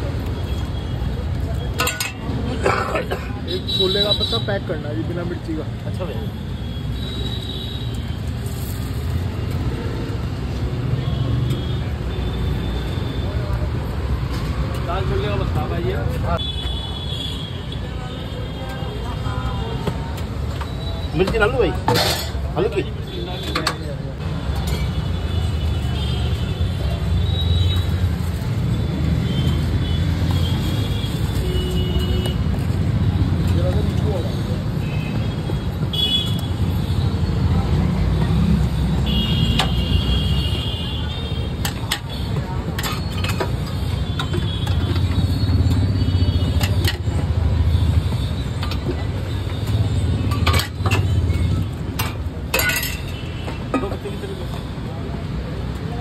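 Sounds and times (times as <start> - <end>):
road traffic rumble: 0.0 - 56.0.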